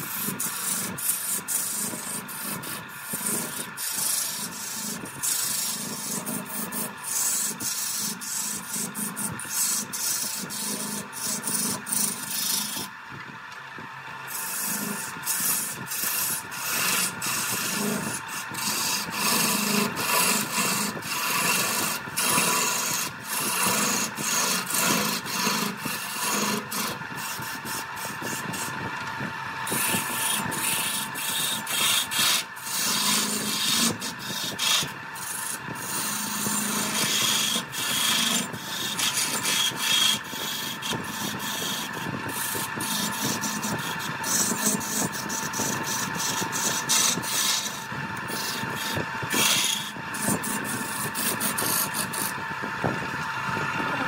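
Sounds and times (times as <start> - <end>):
lathe tool cutting wood: 0.0 - 54.0.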